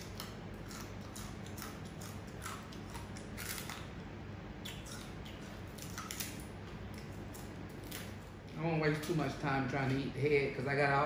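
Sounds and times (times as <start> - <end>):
chewing crunches and mouth clicks: 0.0 - 9.2
low steady hum: 0.0 - 11.0.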